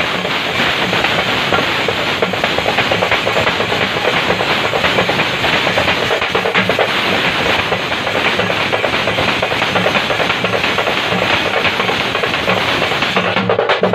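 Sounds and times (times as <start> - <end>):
fast frame drumming with sticks: 0.0 - 13.9.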